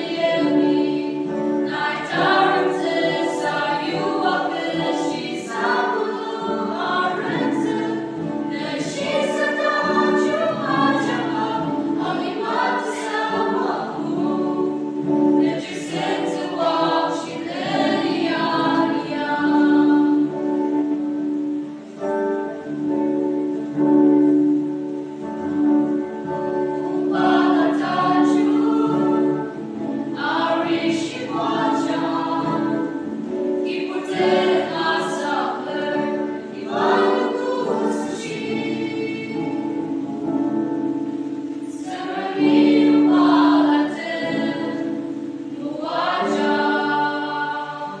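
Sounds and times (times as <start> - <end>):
mixed choir singing: 0.0 - 21.3, 25.5 - 48.0.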